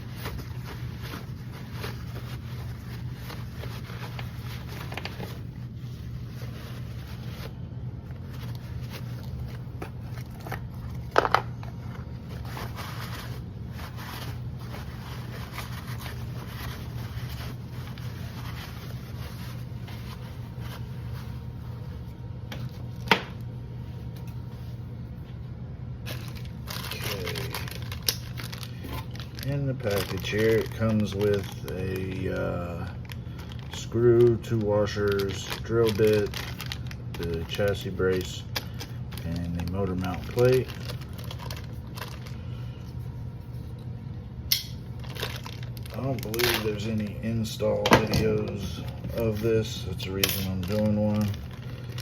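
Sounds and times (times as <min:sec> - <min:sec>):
packaging scrapes and crinkles: 0:00.0 - 0:23.0, 0:26.1 - 0:43.8, 0:44.9 - 0:52.0
steady low hum: 0:00.0 - 0:52.0.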